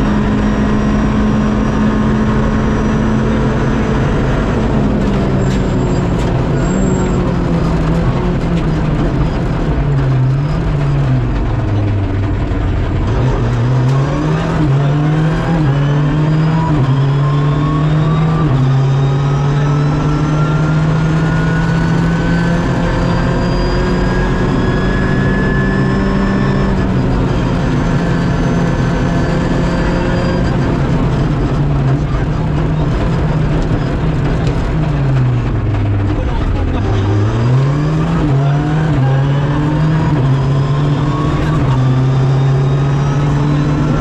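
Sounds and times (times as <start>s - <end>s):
rally car engine: 0.0s - 44.0s.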